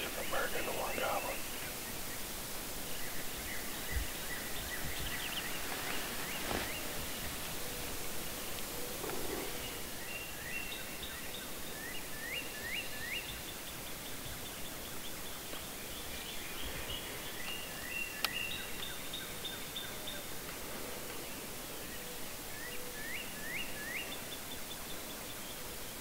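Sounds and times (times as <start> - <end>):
birds chirping and trilling: 0.0 - 26.0
steady outdoor hiss: 0.0 - 26.0.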